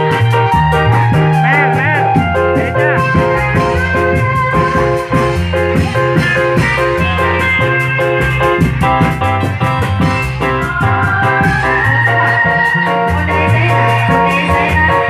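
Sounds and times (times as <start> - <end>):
held melodic notes: 0.0 - 15.0
steady drum beat: 0.0 - 15.0.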